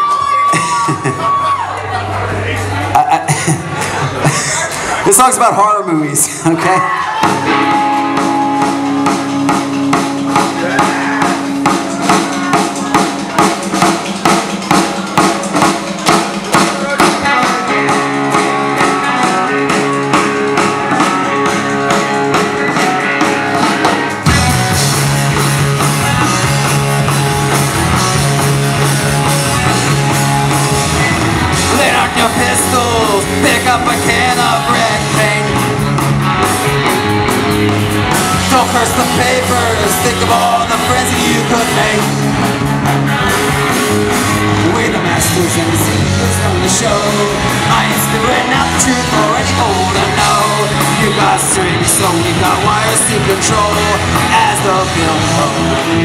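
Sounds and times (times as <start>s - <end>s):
punk rock band playing: 0.0s - 56.0s.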